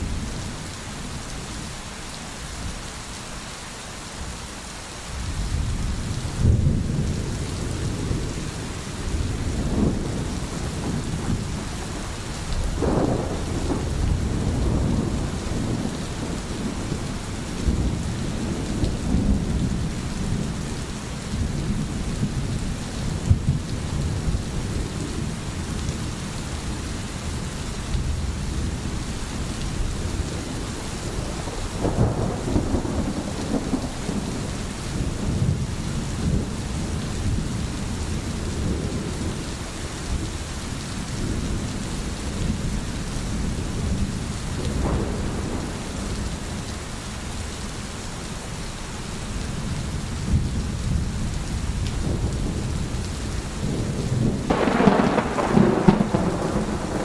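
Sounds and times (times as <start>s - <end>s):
steady rain hissing: 0.0s - 57.0s
low rolling thunder: 5.2s - 39.4s, 41.0s - 46.8s, 49.6s - 57.0s.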